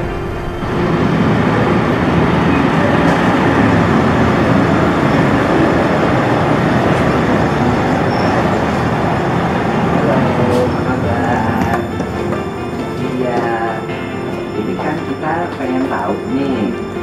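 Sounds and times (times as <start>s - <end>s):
loud street traffic roar: 0.0s - 17.0s.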